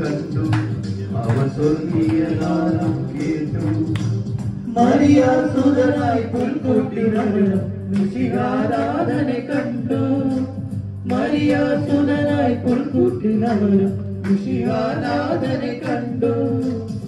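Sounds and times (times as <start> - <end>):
low musical accompaniment: 0.0 - 17.0
men singing into microphones: 0.0 - 17.0.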